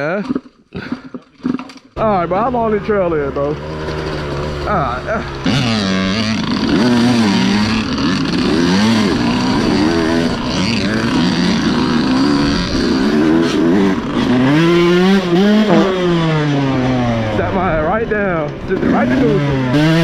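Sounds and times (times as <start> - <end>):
dirt bike engine revving: 1.4 - 17.5, 18.8 - 20.0.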